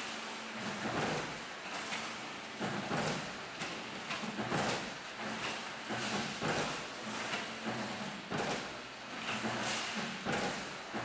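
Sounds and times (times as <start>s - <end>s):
coil feeder rollers humming: 0.0s - 11.0s.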